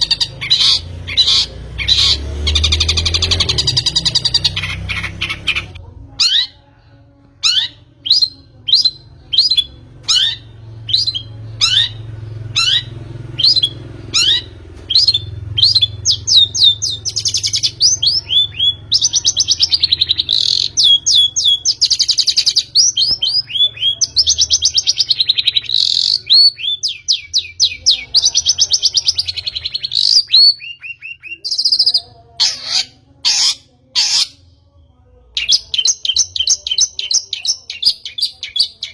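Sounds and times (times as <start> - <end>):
bird scratchy chattering song: 0.0 - 6.6, 7.4 - 34.4.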